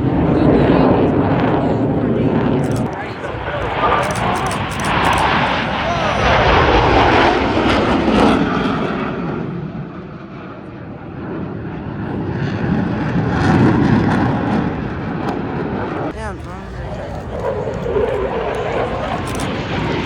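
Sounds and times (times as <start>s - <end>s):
airplane engine: 0.0s - 20.0s.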